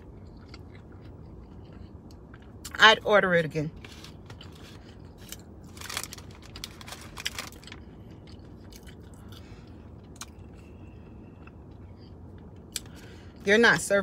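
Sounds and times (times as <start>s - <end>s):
chewing crispy food: 0.0s - 2.8s, 3.8s - 13.4s.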